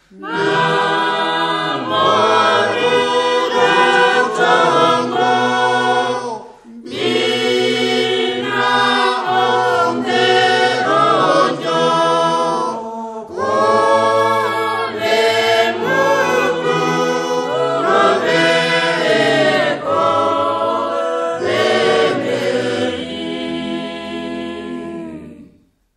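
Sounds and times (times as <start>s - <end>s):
choir singing gospel in harmony: 0.0s - 25.6s.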